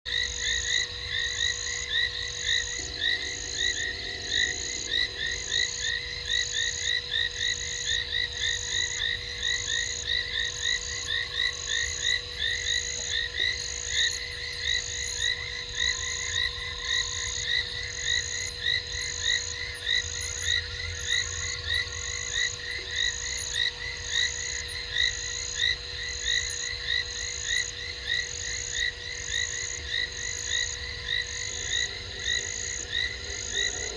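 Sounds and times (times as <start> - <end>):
frogs chirping: 0.1 - 33.9.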